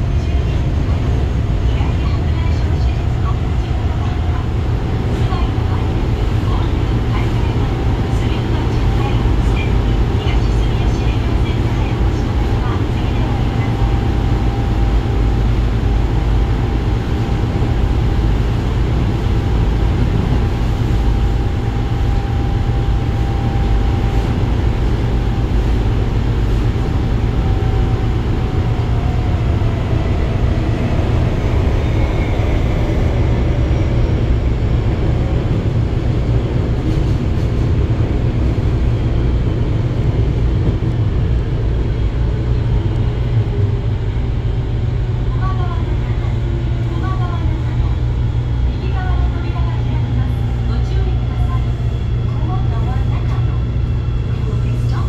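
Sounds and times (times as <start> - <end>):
subway wheels rumbling: 0.0 - 55.0.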